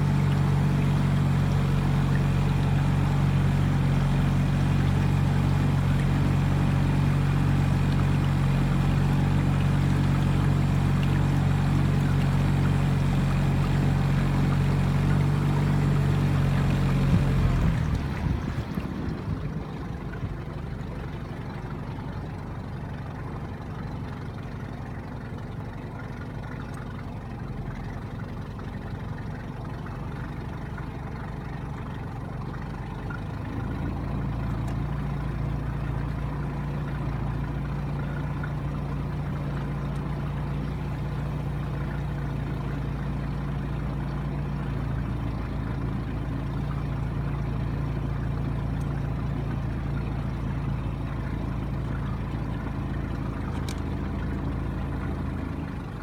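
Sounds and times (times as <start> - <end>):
small outboard motor running: 0.0 - 56.0.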